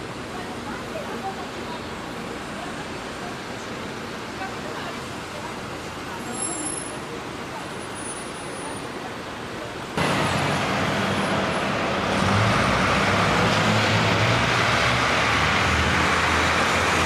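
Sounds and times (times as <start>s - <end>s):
bus engine drone: 0.0s - 17.0s
street traffic: 0.0s - 17.0s.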